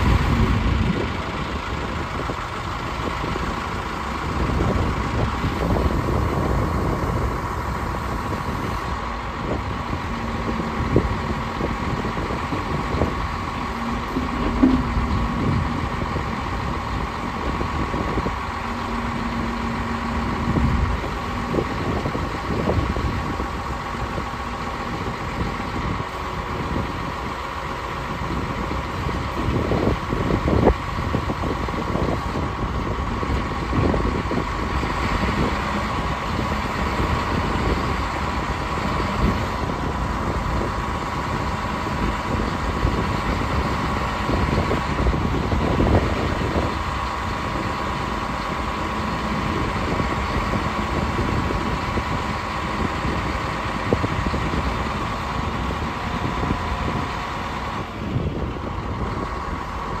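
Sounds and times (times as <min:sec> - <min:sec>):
diesel engine rumbling: 0:00.0 - 1:00.0
hydraulic whine: 0:03.4 - 1:00.0.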